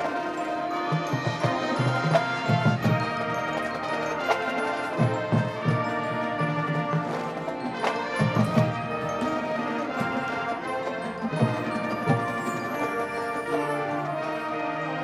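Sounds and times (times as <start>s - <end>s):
marching band brass and woodwinds: 0.0s - 15.0s.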